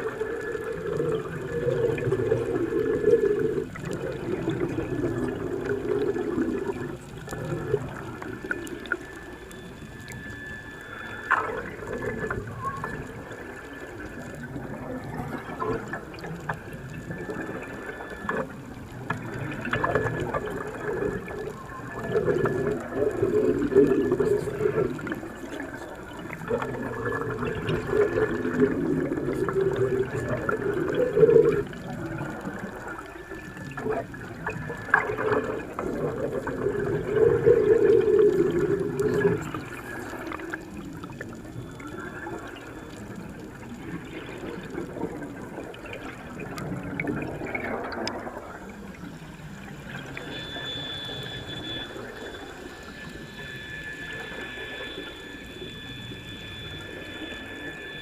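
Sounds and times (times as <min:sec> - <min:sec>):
water bubbling and gurgling: 0:00.0 - 0:58.0.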